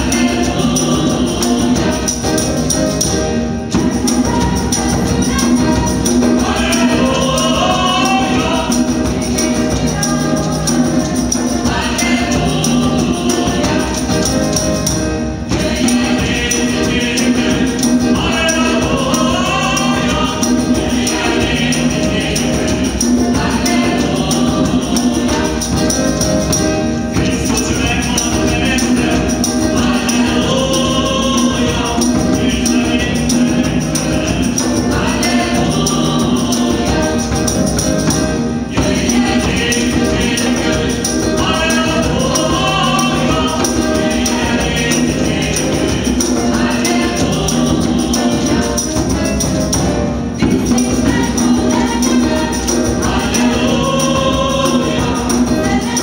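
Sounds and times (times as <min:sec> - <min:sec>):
tambourine jingling: 0:00.0 - 0:56.0
women's choir singing gospel: 0:00.0 - 0:56.0.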